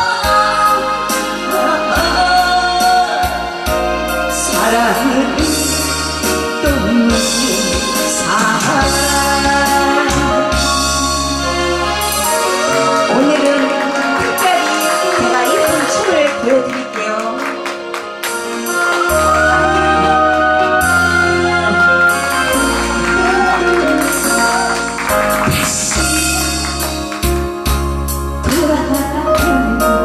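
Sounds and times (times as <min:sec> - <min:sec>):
woman singing: 0:00.0 - 0:17.7, 0:18.6 - 0:27.2, 0:28.4 - 0:30.0
backing track music: 0:00.0 - 0:30.0.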